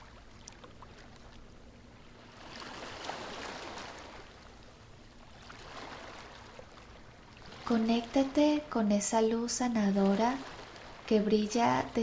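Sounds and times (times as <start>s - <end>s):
surf washing: 2.1s - 12.0s.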